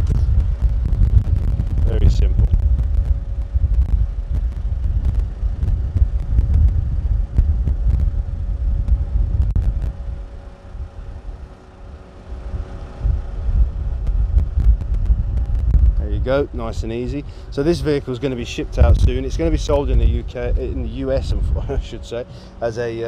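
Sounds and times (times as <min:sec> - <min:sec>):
wind on microphone: 0:00.0 - 0:22.4
dump motor humming: 0:00.0 - 0:23.0.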